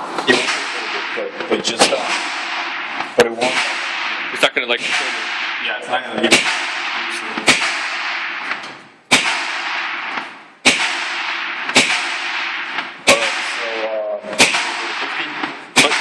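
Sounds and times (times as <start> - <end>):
gunshots with echo: 0.0 - 16.0.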